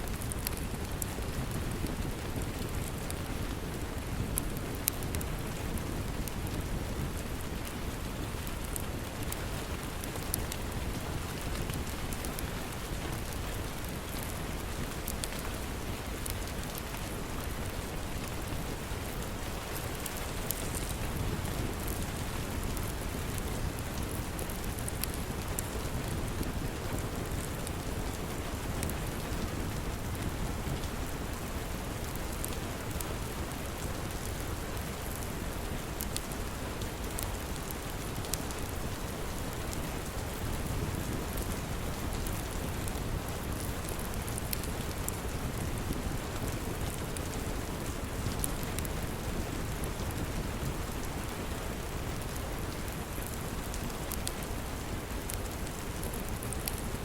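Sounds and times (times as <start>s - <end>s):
log fire crackling: 0.0s - 57.0s
steady rain: 0.0s - 57.0s.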